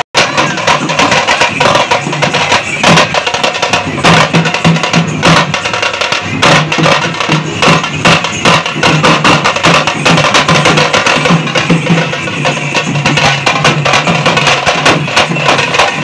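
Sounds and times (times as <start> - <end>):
drummers beating drums with sticks: 0.0 - 16.0.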